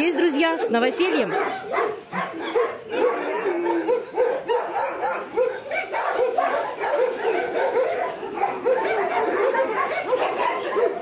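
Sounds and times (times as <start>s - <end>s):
puppies yipping and whining: 0.3s - 11.0s.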